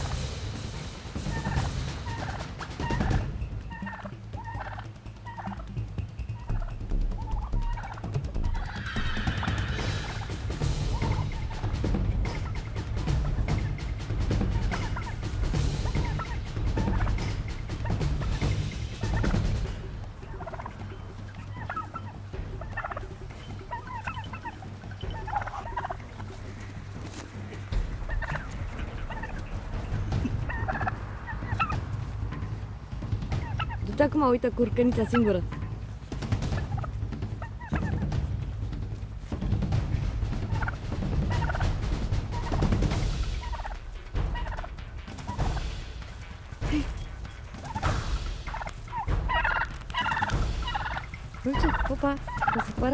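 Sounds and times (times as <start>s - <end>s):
turkey gobbling: 0.0s - 52.9s
steady low rumble: 9.6s - 52.9s.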